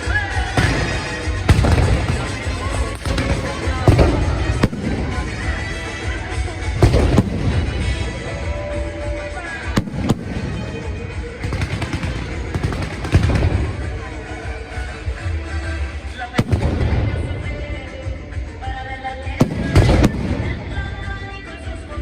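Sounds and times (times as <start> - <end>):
background din: 0.0 - 18.5
fireworks bangs and crackling: 0.0 - 22.0.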